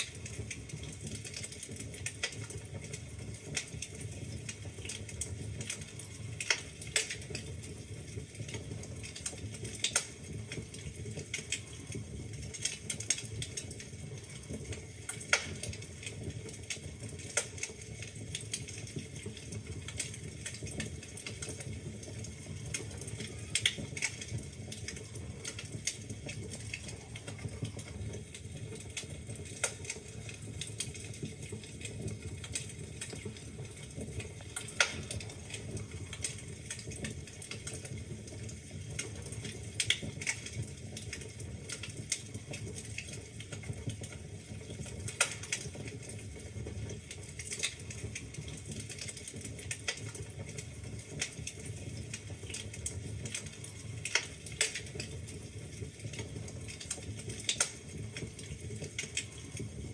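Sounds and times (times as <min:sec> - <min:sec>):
low rumble of flame: 0:00.0 - 0:59.9
wood fire crackling and popping: 0:00.0 - 0:59.9.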